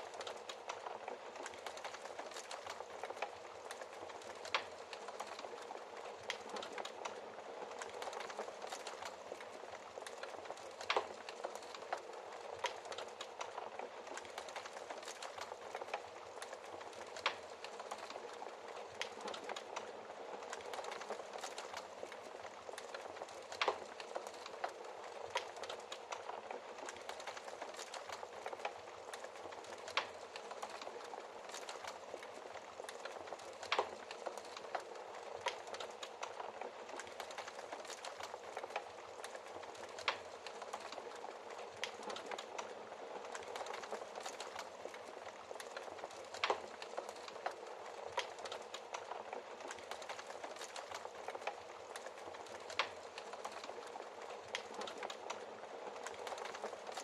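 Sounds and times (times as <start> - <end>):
loud fire cracks: 0.0 - 57.0
wood fire crackling: 0.0 - 57.0.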